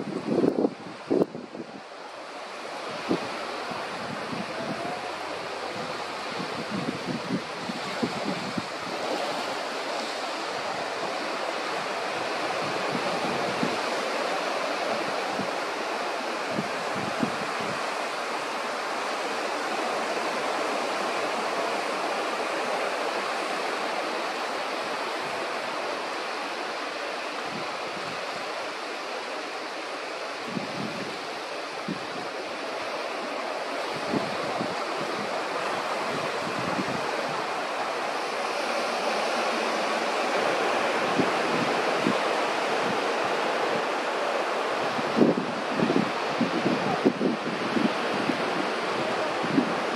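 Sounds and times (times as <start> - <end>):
sea surf on rocky shore: 0.0 - 49.9.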